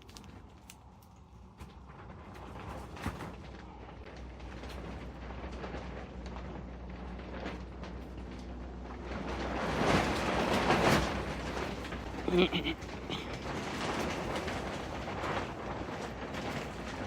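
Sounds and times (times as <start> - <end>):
crackling and scraping of roots and soil: 0.0 - 17.0.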